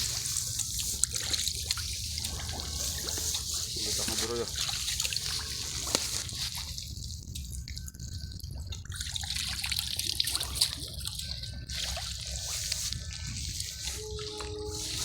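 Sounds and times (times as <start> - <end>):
low steady rumble: 0.0 - 15.0
water dripping and trickling: 0.0 - 15.0.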